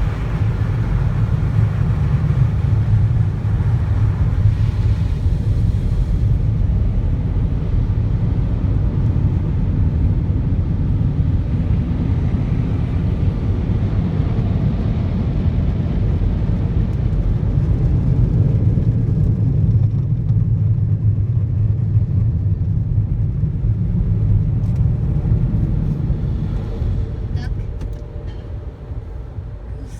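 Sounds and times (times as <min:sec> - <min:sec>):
low rumble of car: 0:00.0 - 0:29.9.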